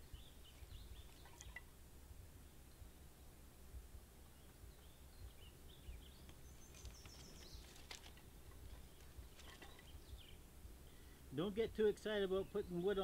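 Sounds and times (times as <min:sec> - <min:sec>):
low wind rumble: 0:00.0 - 0:11.8
small birds chirping: 0:00.0 - 0:13.0.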